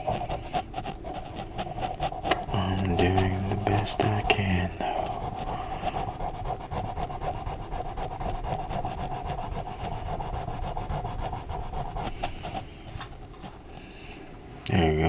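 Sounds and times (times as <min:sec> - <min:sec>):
pencil scratching on paper: 0:00.0 - 0:13.6.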